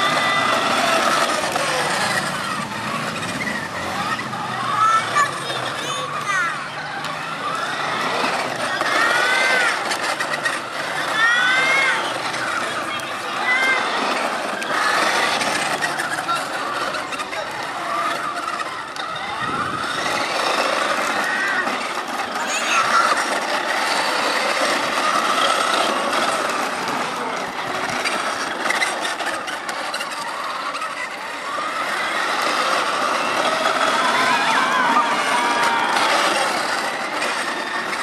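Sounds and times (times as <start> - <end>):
plastic wheels rattling on asphalt: 0.0 - 38.0
small electric motor running: 0.0 - 38.0.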